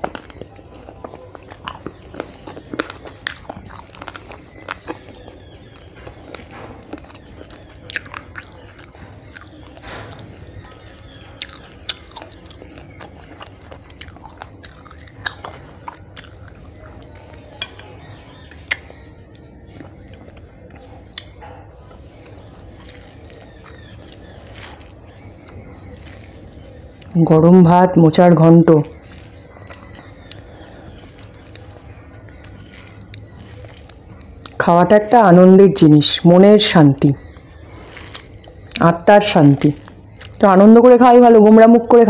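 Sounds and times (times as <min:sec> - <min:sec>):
chewing mouth sounds: 0:00.0 - 0:18.9, 0:19.8 - 0:21.4, 0:22.0 - 0:27.2, 0:28.8 - 0:34.6, 0:37.2 - 0:38.9, 0:39.6 - 0:40.5.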